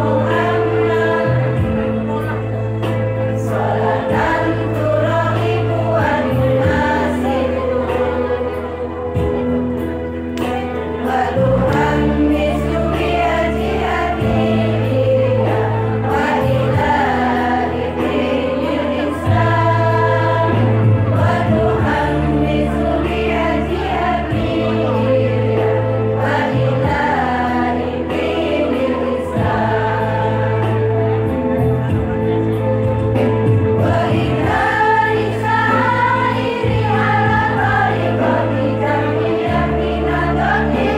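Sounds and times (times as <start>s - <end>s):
women's choir singing: 0.0s - 32.5s, 33.2s - 40.9s
instrumental accompaniment: 0.0s - 40.9s
sustained bass notes: 0.0s - 40.9s.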